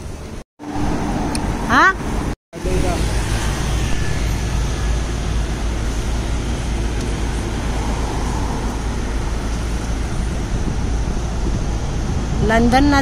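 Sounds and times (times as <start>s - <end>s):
cars passing close by: 0.0s - 13.0s
road traffic noise: 0.0s - 13.0s.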